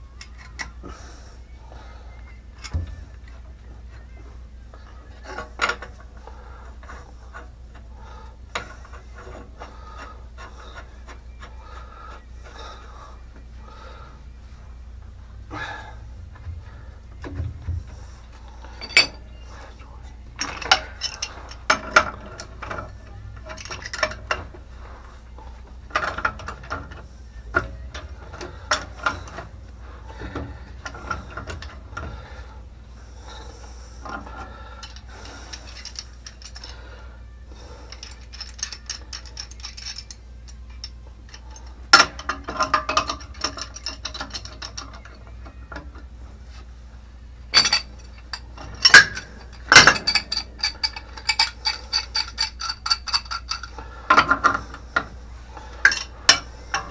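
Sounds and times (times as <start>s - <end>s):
tools clanking on metal: 0.2s - 1.0s, 2.2s - 4.2s, 4.8s - 12.7s, 15.6s - 32.5s, 34.0s - 36.9s, 37.6s - 46.1s, 47.5s - 56.9s.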